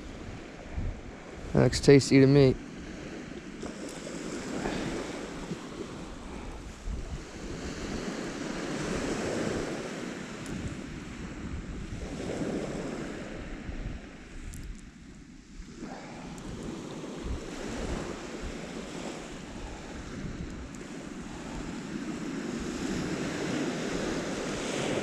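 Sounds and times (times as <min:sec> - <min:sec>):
sea waves washing ashore: 0:00.0 - 0:25.0
wind buffeting microphone: 0:00.0 - 0:25.0.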